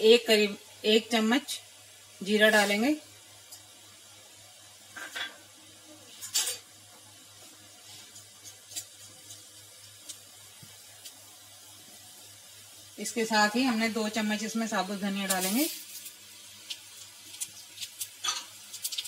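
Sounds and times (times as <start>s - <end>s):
seeds crackling in hot oil: 0.0s - 19.0s.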